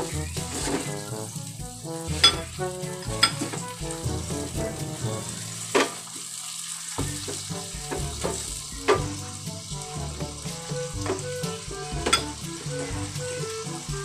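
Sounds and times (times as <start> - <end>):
background music: 0.0 - 6.4, 7.0 - 14.0
chicken sizzling in frying pan: 0.0 - 14.0.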